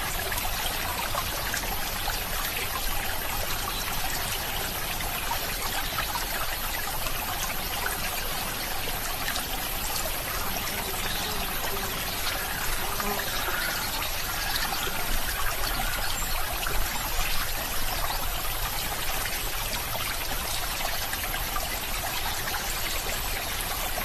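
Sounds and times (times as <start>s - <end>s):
small stream trickling: 0.0s - 24.0s.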